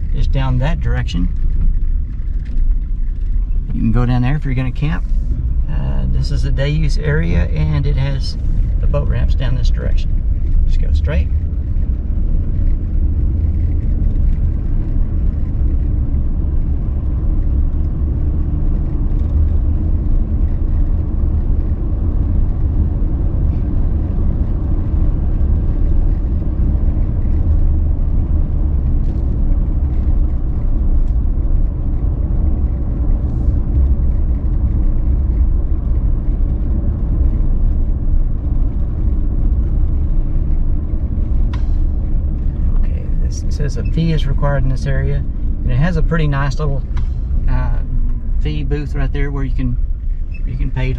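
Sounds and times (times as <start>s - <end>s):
truck engine rumble: 0.0s - 50.9s.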